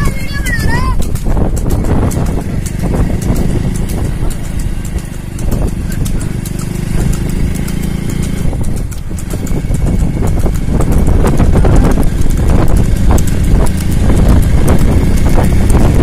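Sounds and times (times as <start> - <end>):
cart wheels and hooves clattering: 0.0 - 16.0
motorcycle engine running: 0.0 - 16.0
wind rumbling on microphone: 0.0 - 16.0.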